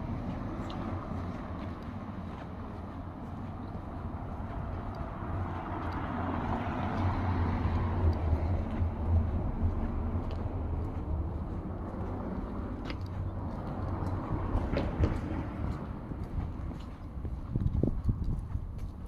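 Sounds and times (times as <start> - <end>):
vehicle engine hum passing: 0.0 - 19.0.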